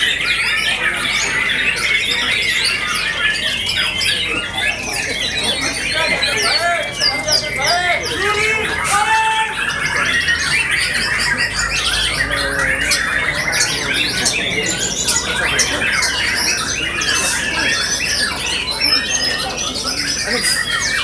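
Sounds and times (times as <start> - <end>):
chorus of birds singing: 0.0 - 21.0.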